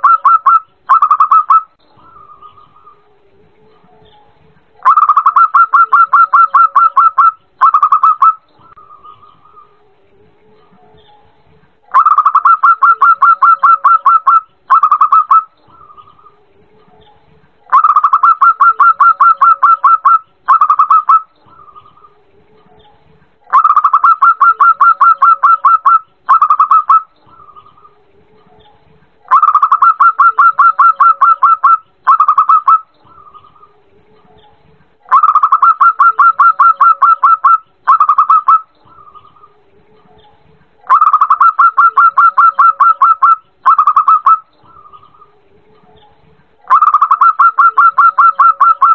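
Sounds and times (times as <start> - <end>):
dove cooing: 0.0 - 11.2, 11.9 - 22.9, 23.5 - 48.9.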